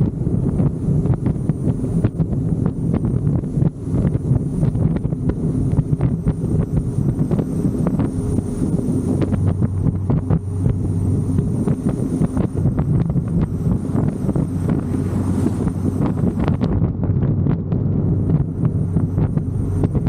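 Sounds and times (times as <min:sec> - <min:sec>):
car engine running: 0:00.0 - 0:20.0
wind buffeting microphone: 0:00.0 - 0:20.0.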